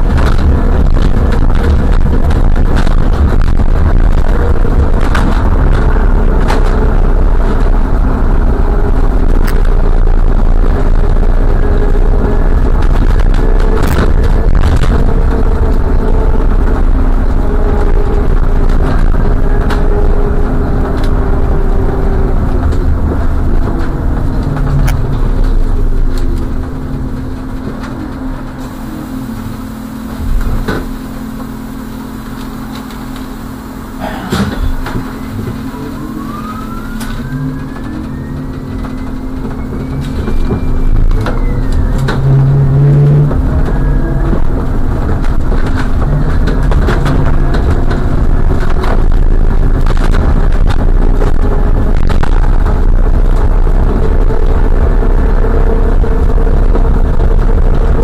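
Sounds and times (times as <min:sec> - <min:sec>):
car engine and tyre noise: 0:00.0 - 0:58.0
whine rising and falling: 0:00.0 - 0:58.0.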